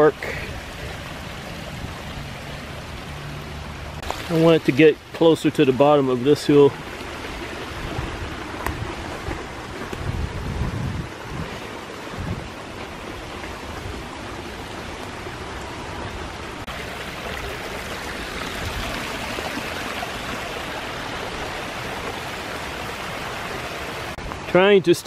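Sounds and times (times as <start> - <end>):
running rainwater runoff: 0.0 - 25.0.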